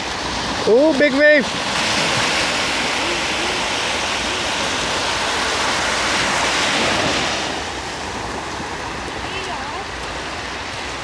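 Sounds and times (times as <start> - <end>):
waves breaking on shore: 0.0 - 11.0.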